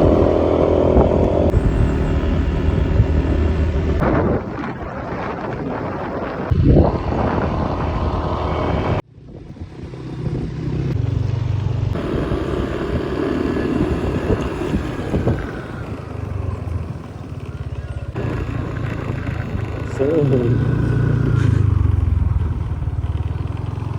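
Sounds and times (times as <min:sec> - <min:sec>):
low vehicle rumble: 0:00.0 - 0:23.9
wind buffeting microphone: 0:00.0 - 0:23.9.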